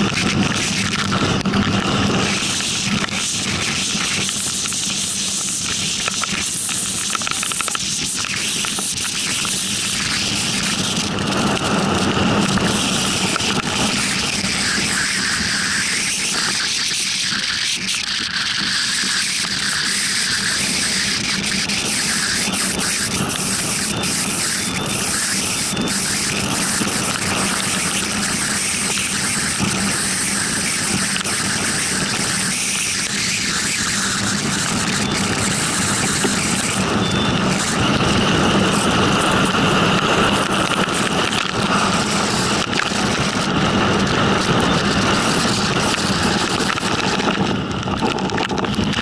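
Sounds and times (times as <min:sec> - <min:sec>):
engine hum: 0:00.0 - 0:49.0
road noise: 0:00.0 - 0:49.0
wind noise: 0:00.0 - 0:49.0.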